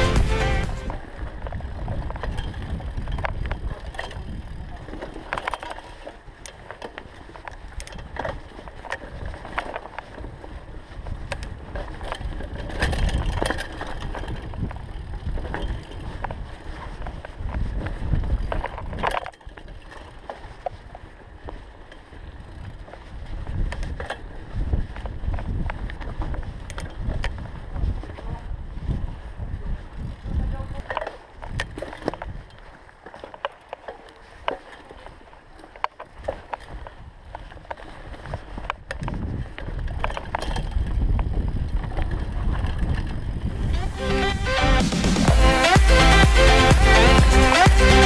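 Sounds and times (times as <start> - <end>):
bike rattling over bumps: 0.0 - 44.0
bike tyres on dirt and leaves: 0.0 - 48.0
wind rumble on microphone: 0.9 - 32.8, 36.1 - 44.4.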